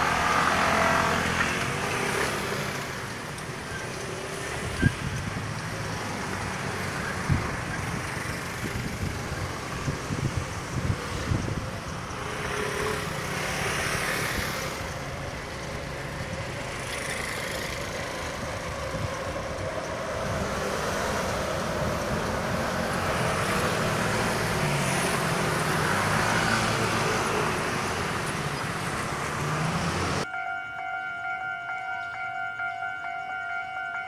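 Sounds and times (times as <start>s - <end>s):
road traffic idling and passing: 0.0s - 34.0s.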